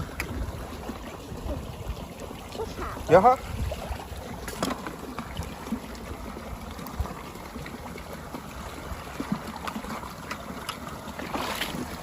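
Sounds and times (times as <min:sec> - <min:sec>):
water rushing through channel: 0:00.0 - 0:12.0.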